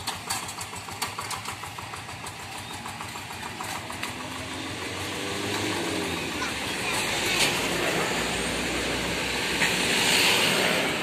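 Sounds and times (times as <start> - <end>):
diesel engine running steadily: 0.0 - 11.0.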